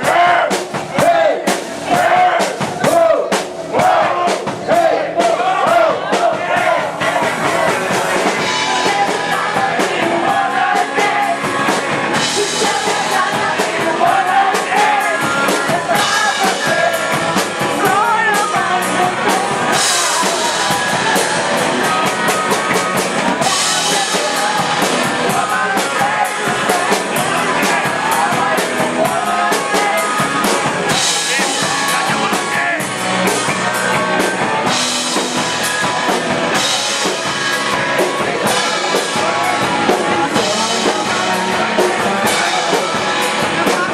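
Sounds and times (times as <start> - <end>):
drum kit: 0.0 - 43.9
guitar: 0.0 - 43.9
person singing: 0.0 - 43.9.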